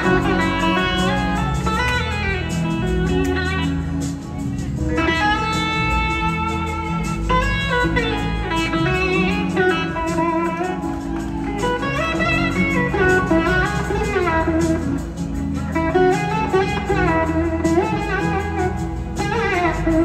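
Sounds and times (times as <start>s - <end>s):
blues rock band playing: 0.0s - 20.0s
electric slide guitar: 0.0s - 20.0s.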